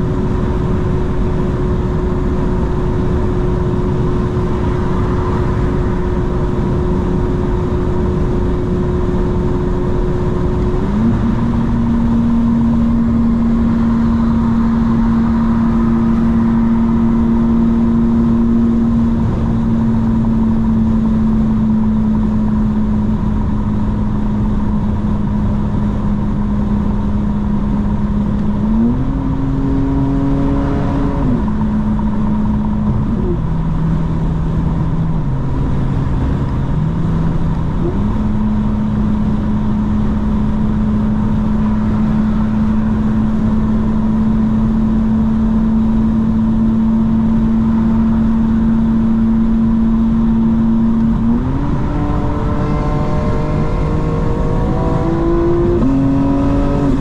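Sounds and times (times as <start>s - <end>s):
car engine running and revving: 0.0s - 57.0s.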